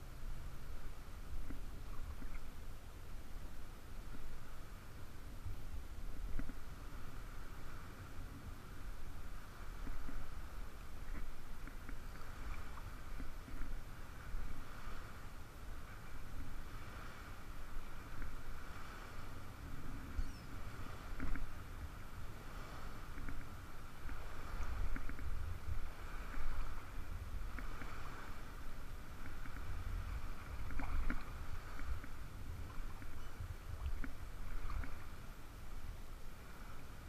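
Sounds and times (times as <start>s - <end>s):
water lapping and sloshing: 0.0s - 37.0s.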